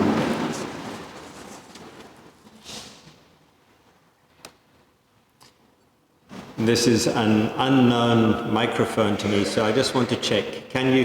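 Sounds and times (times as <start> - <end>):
congregation rustling and shuffling: 0.0 - 11.0.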